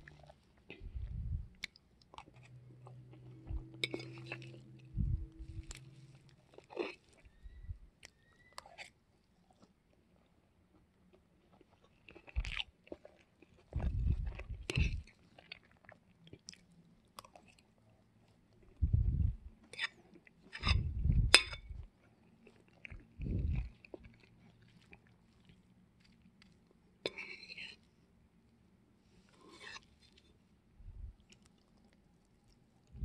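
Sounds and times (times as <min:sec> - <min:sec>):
person chewing food: 0:00.0 - 0:10.2, 0:10.8 - 0:28.0, 0:29.2 - 0:33.0.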